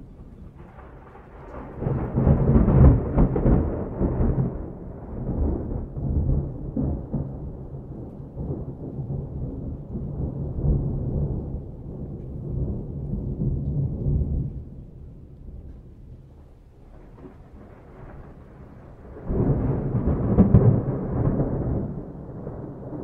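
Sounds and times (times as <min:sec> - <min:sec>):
rolling thunder rumble: 0:00.0 - 0:23.0.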